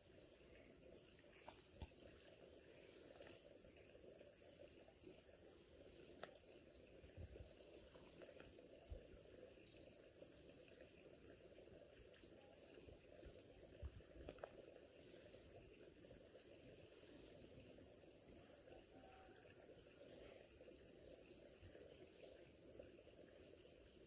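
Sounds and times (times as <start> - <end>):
faint insect chirring: 0.0 - 24.0.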